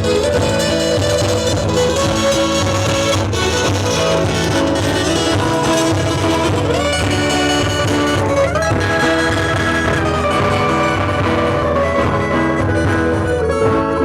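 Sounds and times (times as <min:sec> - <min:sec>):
live guitar music: 0:00.0 - 0:14.0.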